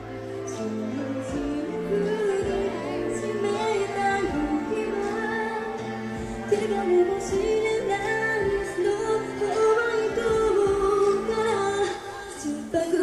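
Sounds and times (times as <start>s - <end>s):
band playing pop ballad: 0.0s - 13.0s
women singing: 0.0s - 13.0s.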